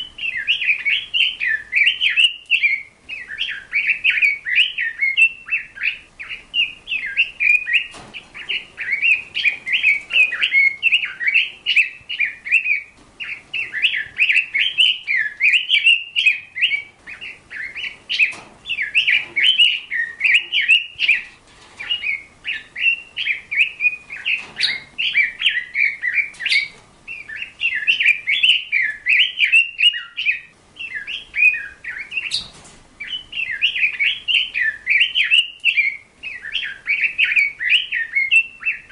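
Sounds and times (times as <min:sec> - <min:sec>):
songbird singing chirps and trills: 0:00.0 - 0:38.9.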